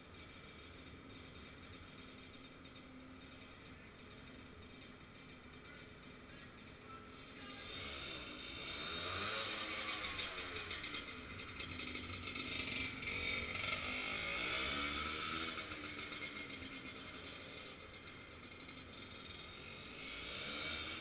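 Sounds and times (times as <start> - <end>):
trail bike engine revving: 0.0 - 21.0.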